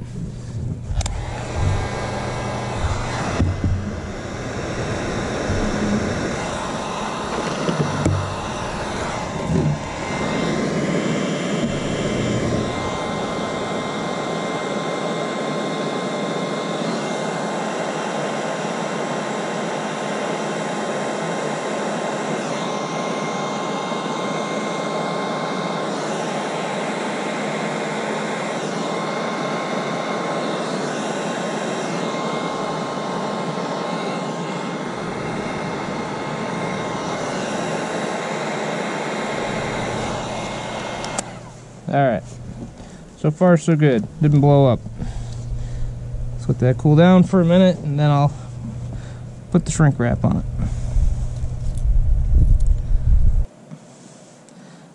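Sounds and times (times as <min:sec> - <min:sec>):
heat gun rushing hiss: 0:00.0 - 0:53.5
faint steady whine: 0:00.0 - 0:54.9.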